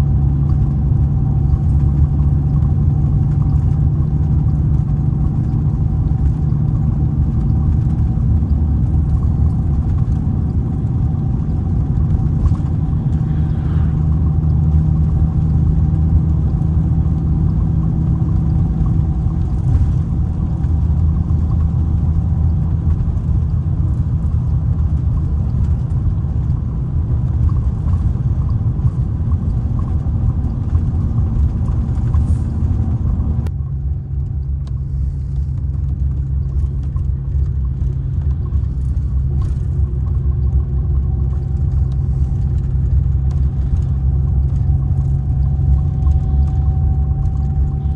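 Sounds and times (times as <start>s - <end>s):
bus diesel engine drone: 0.0s - 47.9s.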